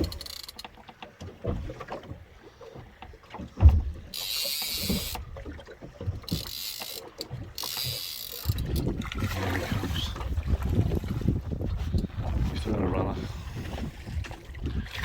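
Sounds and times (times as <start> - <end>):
water slapping against boat hull: 0.0 - 15.0.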